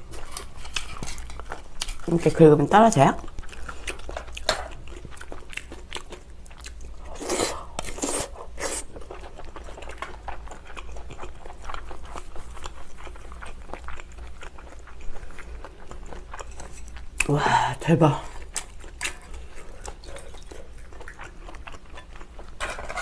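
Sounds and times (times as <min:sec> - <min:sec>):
chewing and biting food: 0:00.0 - 0:02.2, 0:03.2 - 0:17.3, 0:18.4 - 0:23.0.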